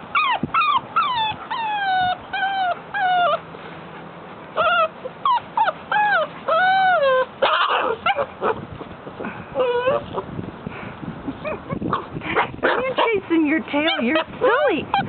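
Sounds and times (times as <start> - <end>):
puppy whining: 0.0 - 10.4, 11.3 - 13.2, 13.8 - 15.0.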